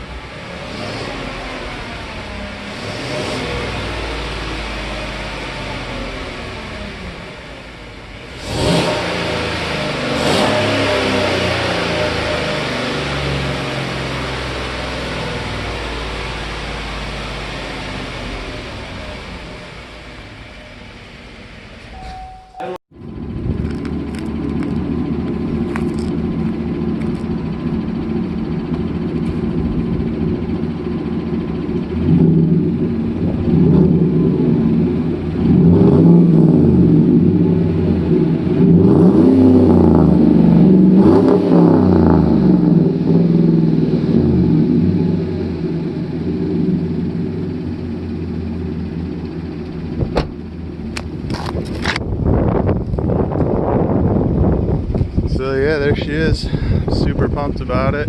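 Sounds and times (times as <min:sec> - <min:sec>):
vee eight engine idling and revving: 0:00.0 - 0:58.0.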